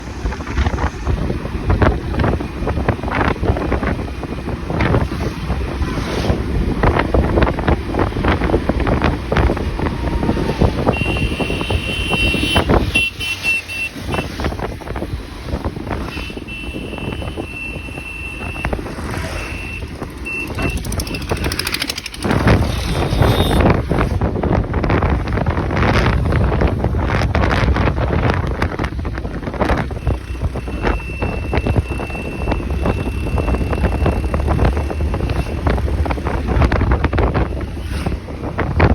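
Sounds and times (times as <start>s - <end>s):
wind buffeting microphone: 0.0s - 13.2s, 14.0s - 38.9s.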